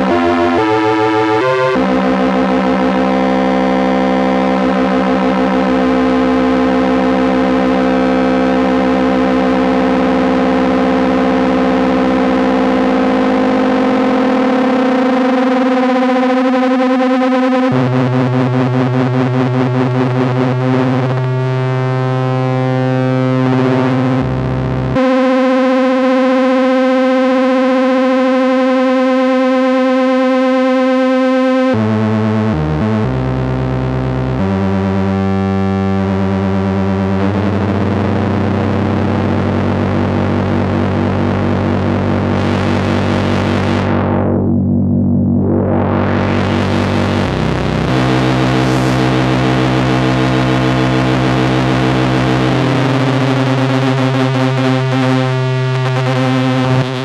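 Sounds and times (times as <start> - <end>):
analog synthesizer notes: 0.0 - 57.0.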